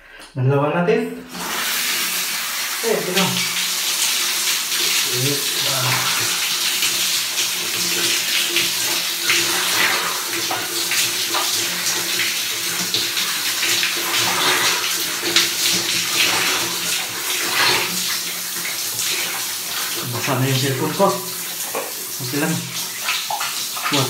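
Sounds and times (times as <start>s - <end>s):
shower spray splashing: 1.2s - 24.0s.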